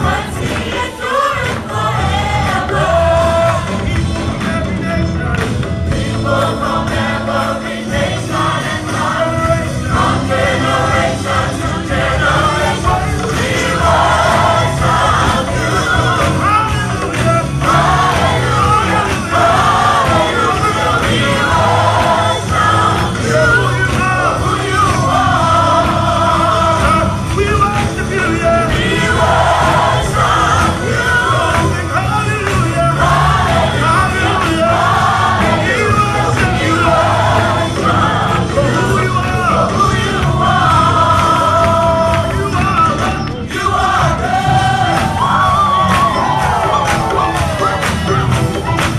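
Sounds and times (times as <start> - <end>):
gospel choir singing with band: 0.0 - 48.9.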